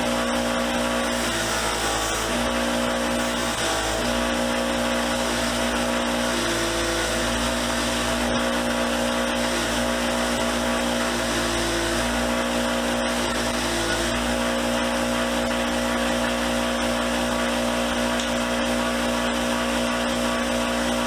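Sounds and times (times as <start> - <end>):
motor hum: 0.0 - 21.0.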